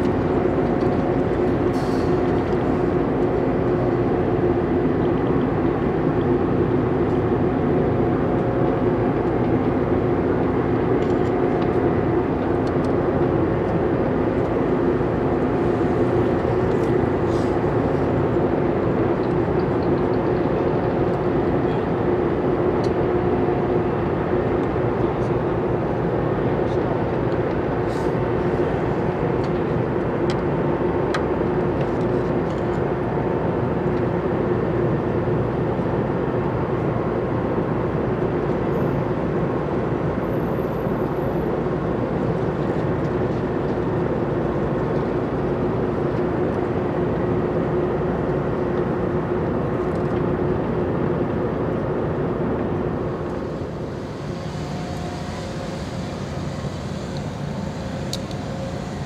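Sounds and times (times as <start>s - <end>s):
ship engine drone: 0.0s - 59.0s.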